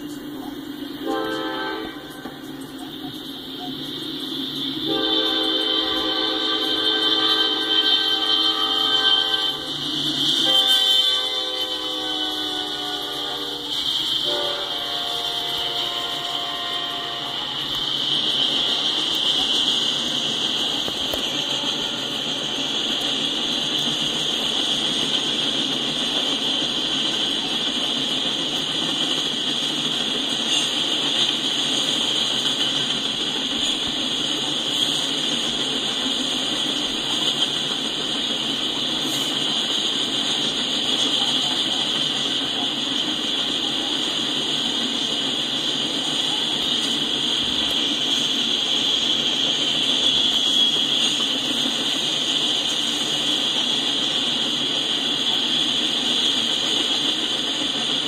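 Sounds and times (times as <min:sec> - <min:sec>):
high-pitched hiss: 0:00.0 - 0:58.0
steel wheels rumbling on rail: 0:00.0 - 0:58.0.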